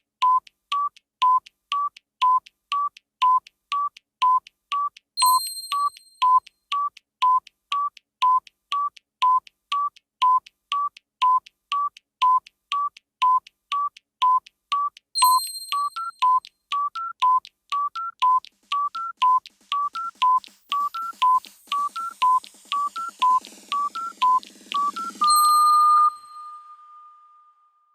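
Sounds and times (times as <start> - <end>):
electronic timer beeps: 0.2 - 26.8.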